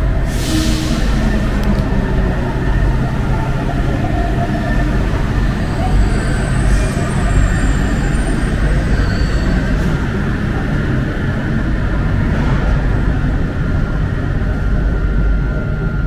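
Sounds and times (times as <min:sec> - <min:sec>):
metro train rumbling: 0:00.0 - 0:16.0.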